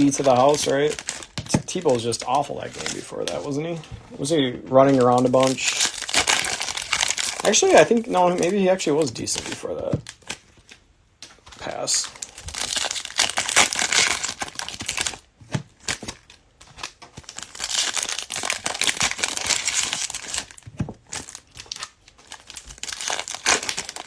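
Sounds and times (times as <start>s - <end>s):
plastic foil wrapper crinkling: 0.0s - 24.0s.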